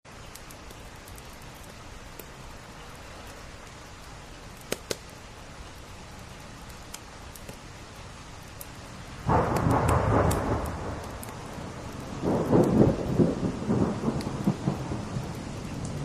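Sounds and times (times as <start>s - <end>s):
steady rain hiss: 0.0s - 16.0s
wood fire crackling and popping: 0.1s - 16.0s.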